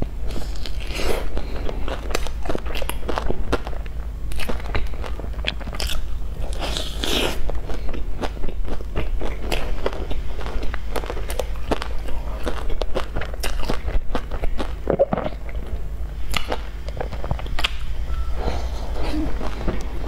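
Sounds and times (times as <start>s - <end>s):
crunchy bread chewing: 0.0s - 20.0s.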